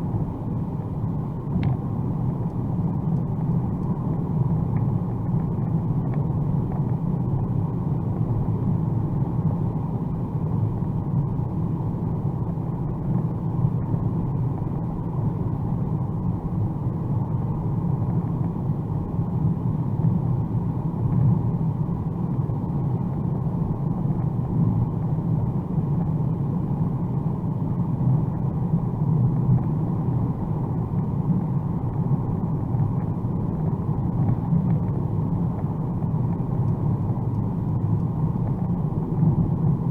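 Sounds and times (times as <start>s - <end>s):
car cabin road and engine drone: 0.0s - 39.9s.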